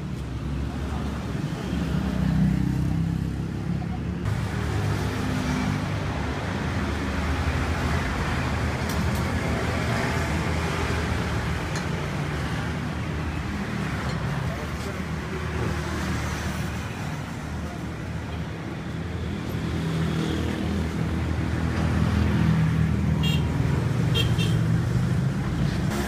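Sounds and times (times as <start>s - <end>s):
street traffic: 0.0s - 26.0s.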